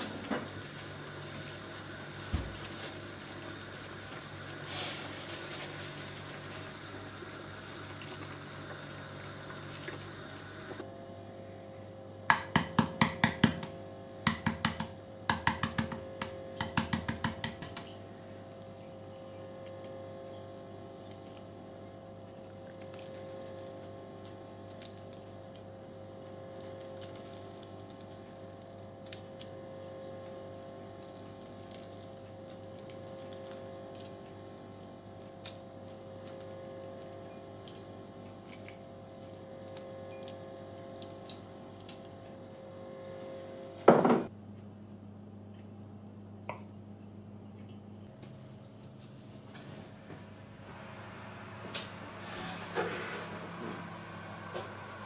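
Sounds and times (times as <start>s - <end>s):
appliance hum: 0.0s - 55.0s.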